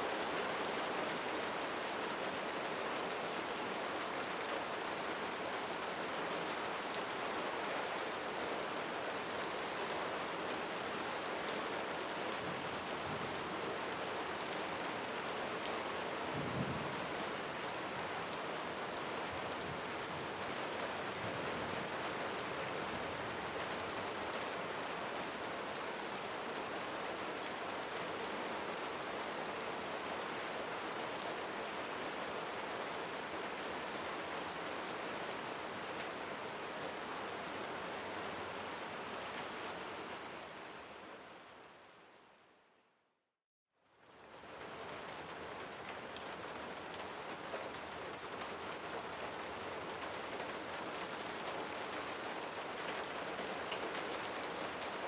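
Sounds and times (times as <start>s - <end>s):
rain falling on leaves: 0.0s - 42.7s, 43.8s - 55.0s.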